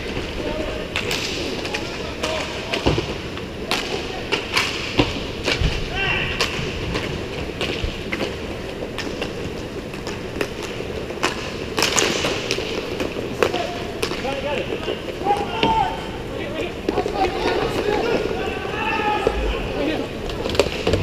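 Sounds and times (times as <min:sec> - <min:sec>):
hockey sticks and puck clacking: 0:00.0 - 0:21.0.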